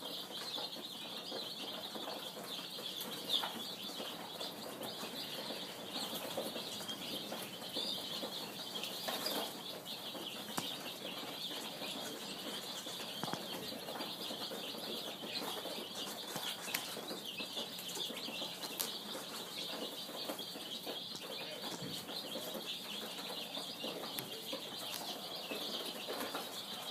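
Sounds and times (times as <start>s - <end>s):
baby birds peeping: 0.0s - 26.9s.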